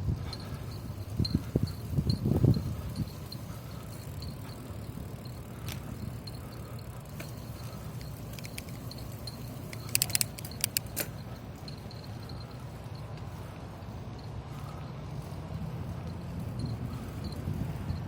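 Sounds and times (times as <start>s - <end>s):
bicycle tyres and wind rumble: 0.0s - 18.0s
metallic clicks and jingles: 0.0s - 18.0s.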